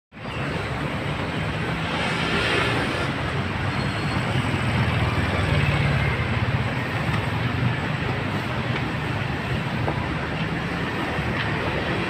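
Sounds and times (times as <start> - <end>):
street traffic: 0.1 - 12.0.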